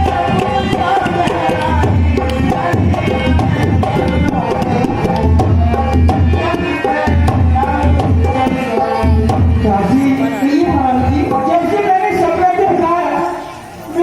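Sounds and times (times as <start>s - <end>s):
harmonium melody: 0.0s - 12.5s.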